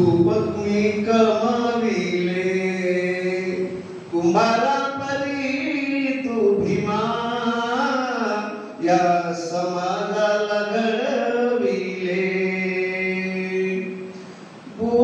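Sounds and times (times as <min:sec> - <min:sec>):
man singing chant-like: 0:00.0 - 0:14.0.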